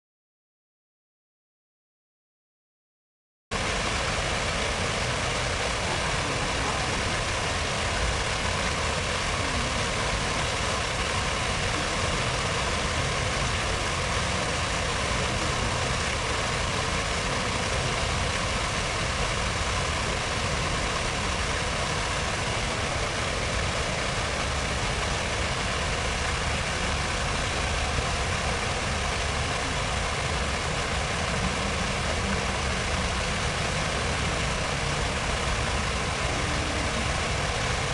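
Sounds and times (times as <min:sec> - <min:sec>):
fountain water splashing: 0:03.5 - 0:37.9.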